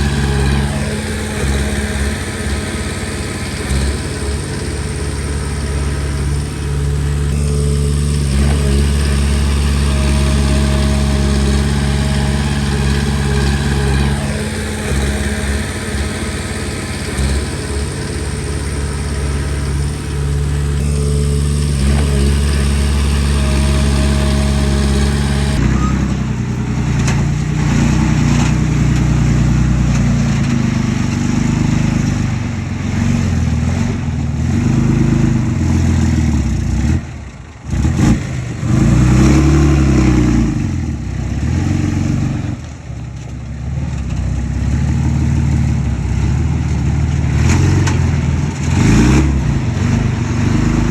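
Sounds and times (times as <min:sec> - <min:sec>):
bulldozer diesel engine under load: 0:00.0 - 0:50.9.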